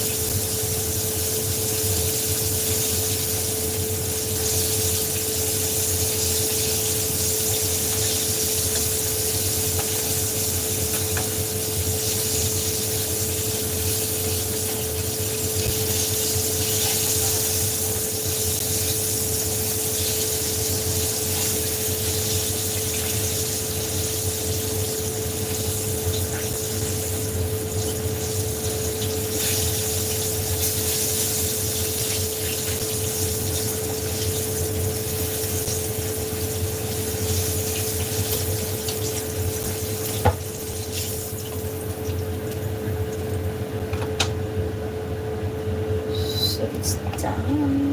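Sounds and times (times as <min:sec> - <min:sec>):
chicken sizzling in hot oil: 0:00.0 - 0:44.4
constant hum: 0:00.0 - 0:47.9.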